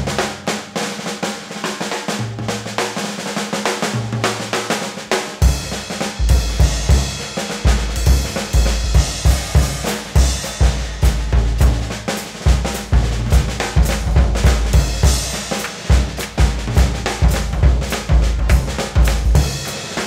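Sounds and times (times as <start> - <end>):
snare drumming and rolls: 2.8 - 20.0.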